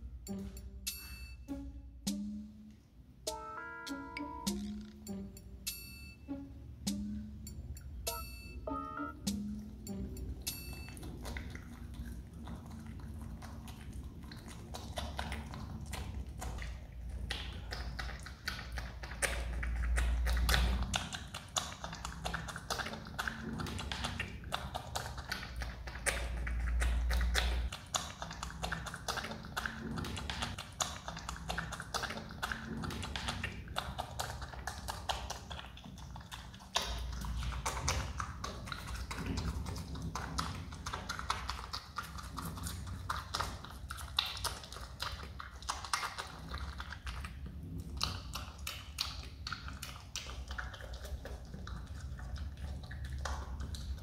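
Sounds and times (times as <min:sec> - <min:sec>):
animal chewing with clicking smacks: 0:09.2 - 0:54.0.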